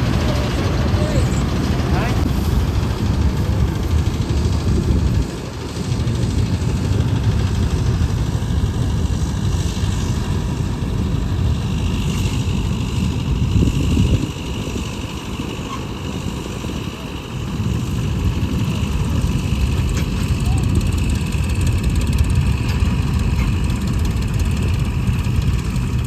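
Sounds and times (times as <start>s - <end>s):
diesel engine low rumble: 0.0s - 26.0s.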